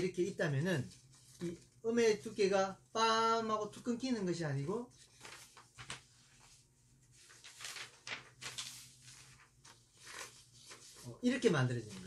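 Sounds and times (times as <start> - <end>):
paper sheets rustling: 0.0 - 2.6, 3.8 - 12.0.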